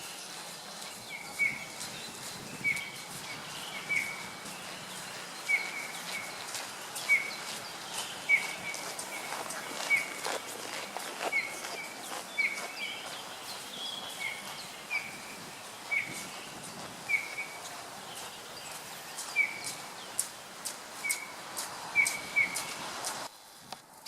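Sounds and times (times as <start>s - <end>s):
outdoor background noise: 0.0s - 24.0s
small bird calling: 1.1s - 20.3s, 21.0s - 22.8s.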